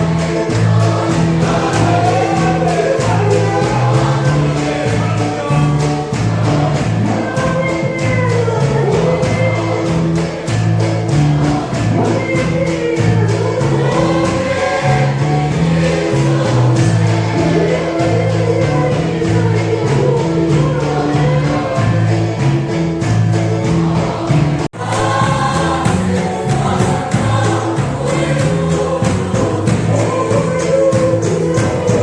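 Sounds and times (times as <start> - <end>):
choir singing gospel song: 0.0 - 32.0
steady beat and bass line: 0.0 - 32.0.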